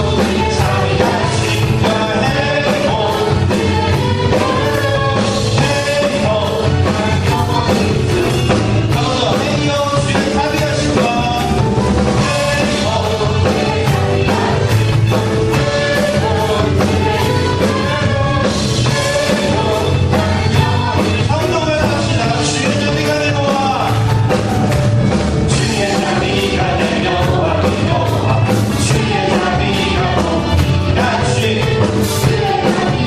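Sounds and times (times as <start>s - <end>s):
people singing: 0.0s - 24.2s, 25.4s - 33.0s
upbeat praise song with drums: 0.0s - 33.0s.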